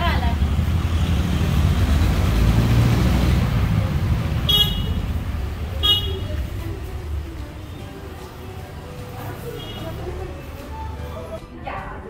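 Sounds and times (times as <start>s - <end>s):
street traffic rumbling: 0.0s - 12.0s.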